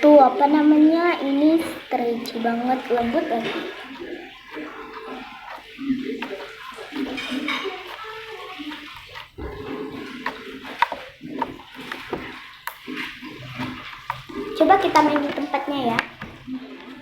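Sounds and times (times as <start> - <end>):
slime squelching: 0.0 - 17.0.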